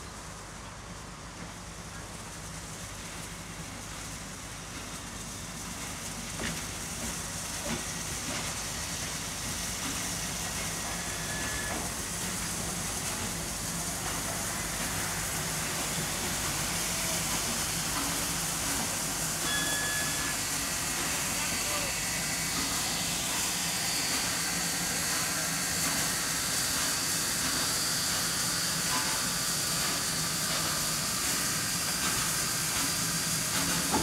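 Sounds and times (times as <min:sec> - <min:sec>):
steam locomotive hissing: 0:00.0 - 0:34.0.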